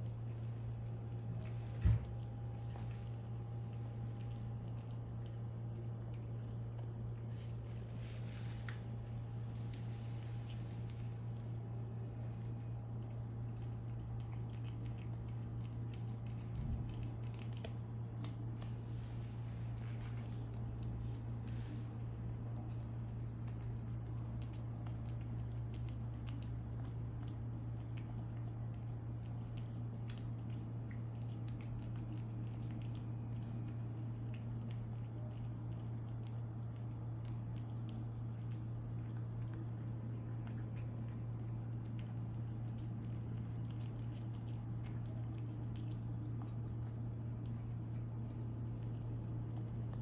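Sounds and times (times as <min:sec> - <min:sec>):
cat chewing food: 0:00.0 - 0:50.0
low hum: 0:00.0 - 0:50.0.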